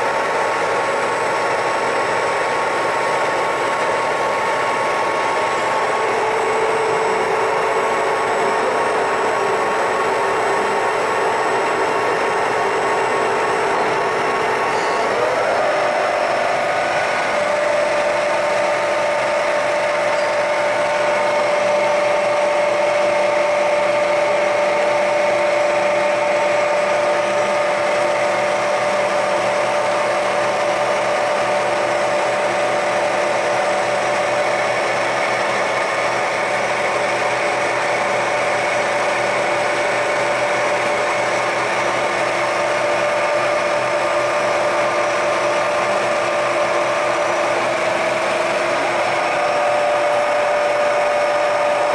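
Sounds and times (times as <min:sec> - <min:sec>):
machine motor hum and whine: 0:00.0 - 0:51.9.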